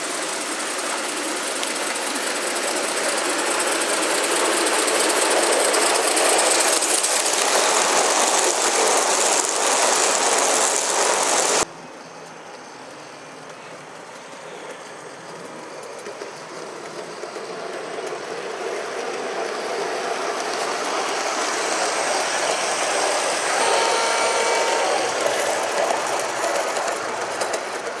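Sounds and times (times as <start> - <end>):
model steam locomotive hissing: 0.0 - 11.7, 12.8 - 28.0
model train passing: 0.0 - 28.0.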